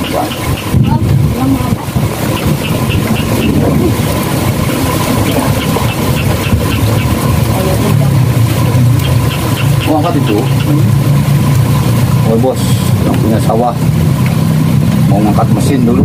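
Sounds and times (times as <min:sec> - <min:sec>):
small engine humming: 0:00.0 - 0:16.0.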